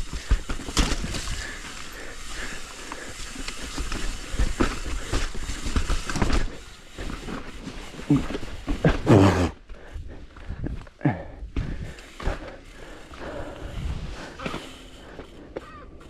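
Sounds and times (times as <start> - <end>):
bike clunks and rattles: 0.0 - 9.3, 11.5 - 16.0
bike tyre noise: 0.0 - 16.0.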